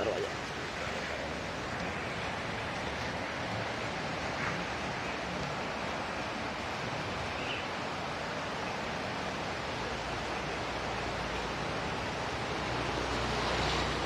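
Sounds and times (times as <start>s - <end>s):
hiss of falling water: 0.0s - 14.0s.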